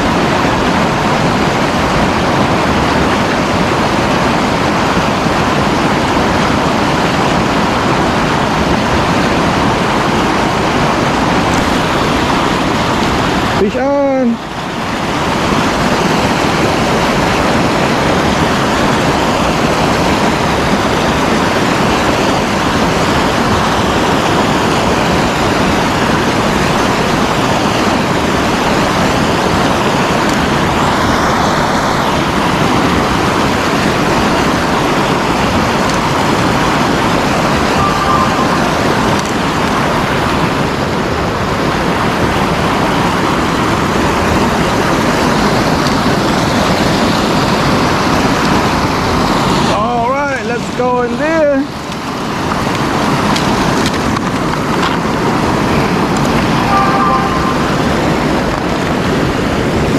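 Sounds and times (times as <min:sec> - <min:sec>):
water rushing over dam: 0:00.0 - 0:59.9.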